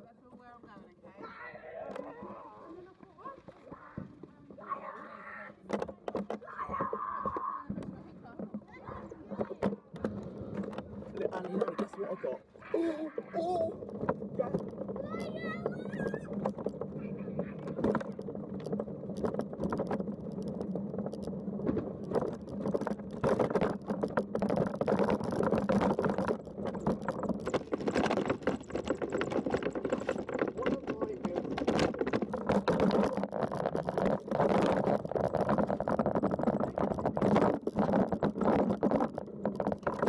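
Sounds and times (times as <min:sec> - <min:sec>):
rattles and knocks: 0:05.6 - 0:40.0.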